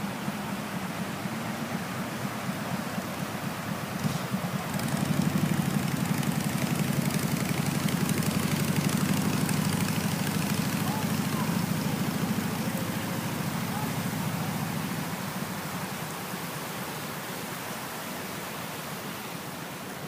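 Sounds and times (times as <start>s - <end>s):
engine pulsing hum: 0.0s - 16.1s.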